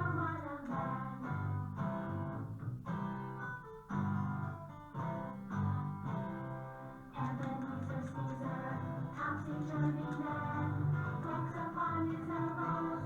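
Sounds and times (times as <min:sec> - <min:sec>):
plucked guitar chords: 0:00.0 - 0:13.0.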